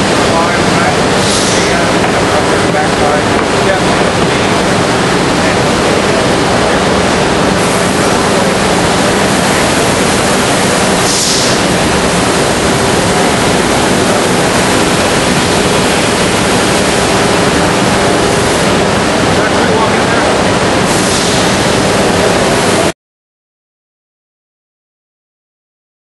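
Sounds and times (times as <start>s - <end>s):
loud machinery noise: 0.0s - 23.0s.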